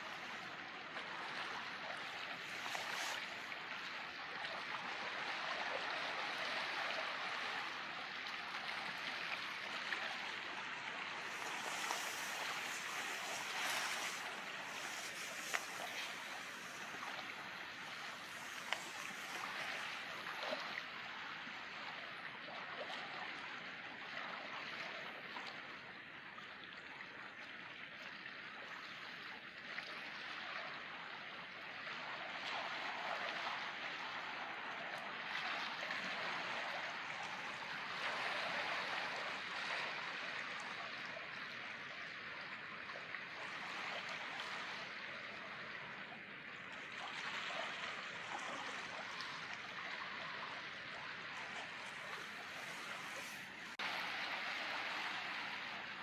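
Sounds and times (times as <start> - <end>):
water washing and lapping: 0.0 - 25.1, 32.0 - 56.0.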